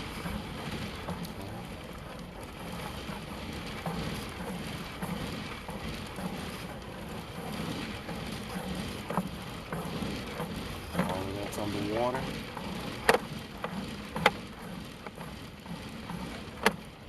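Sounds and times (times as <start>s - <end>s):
cable reel rumbling and rattling: 0.0s - 17.0s.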